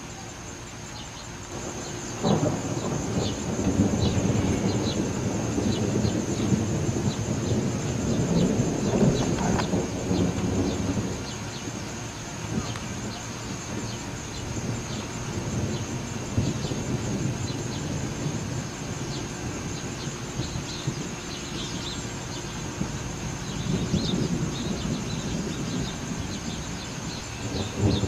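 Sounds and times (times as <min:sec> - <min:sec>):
distant thunder rumbling: 0:00.0 - 0:28.0.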